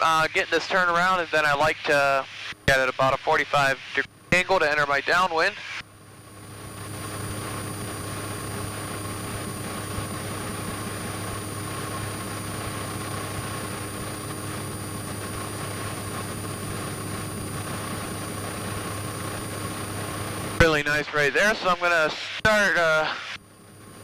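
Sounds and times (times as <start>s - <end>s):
propeller plane cabin drone: 0.0s - 24.0s.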